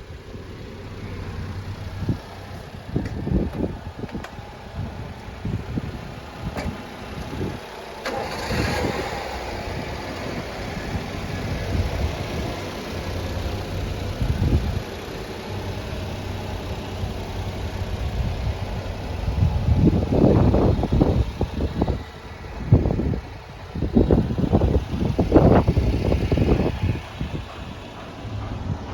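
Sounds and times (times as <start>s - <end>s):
truck engine starting and idling: 0.0s - 28.9s.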